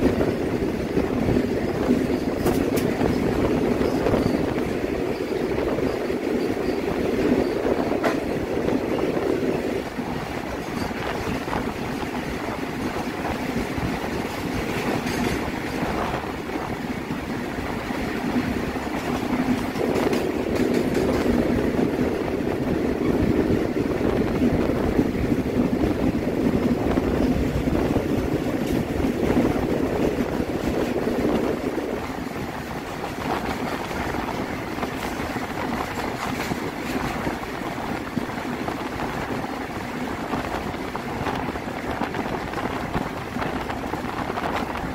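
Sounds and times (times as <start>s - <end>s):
goods trains wheels rumbling: 0.0s - 44.9s.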